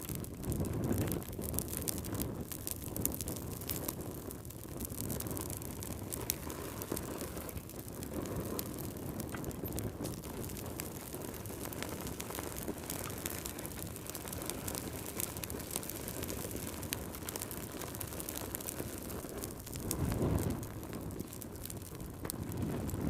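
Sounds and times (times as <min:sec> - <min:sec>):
low rumble of burning: 0:00.0 - 0:23.0
sharp pops of fire: 0:00.0 - 0:23.0
wood fire crackling: 0:00.0 - 0:23.0.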